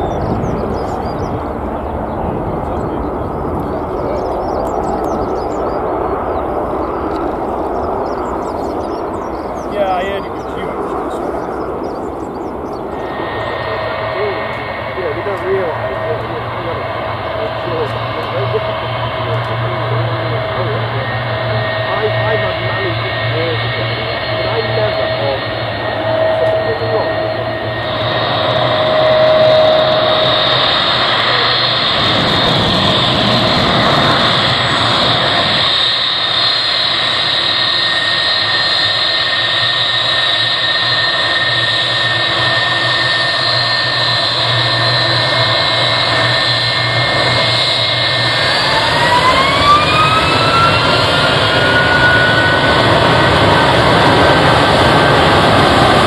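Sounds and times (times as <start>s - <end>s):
jet engines whining and rumbling: 0.0s - 56.0s.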